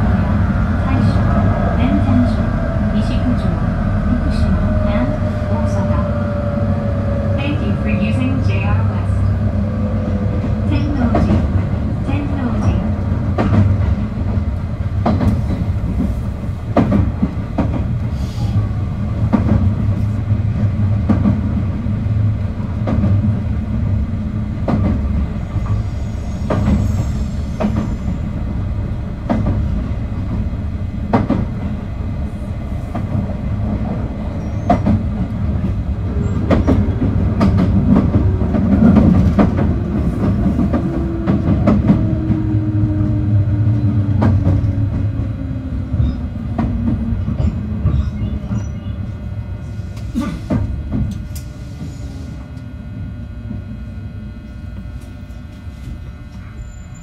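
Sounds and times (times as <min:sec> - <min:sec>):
rail joint clicks: 0:00.0 - 0:52.7
train wheels rumbling on rail: 0:00.0 - 0:57.0.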